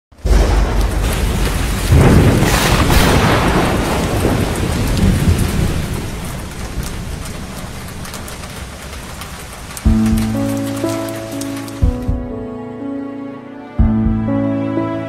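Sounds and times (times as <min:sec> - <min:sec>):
thunder roll: 0:00.1 - 0:12.5
steady rain: 0:00.1 - 0:13.3.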